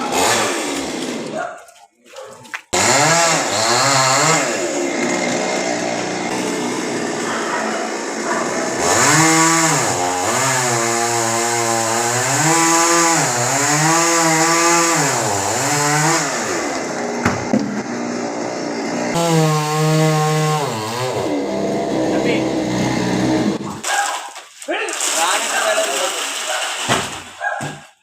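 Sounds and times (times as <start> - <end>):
chainsaw cutting wood: 0.0 - 1.4, 2.7 - 23.8.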